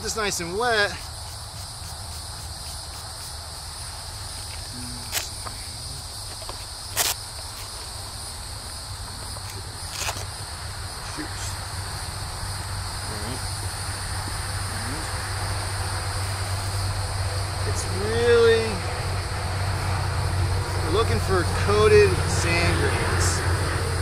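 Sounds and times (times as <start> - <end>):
insect chorus buzzing: 0.0 - 24.0.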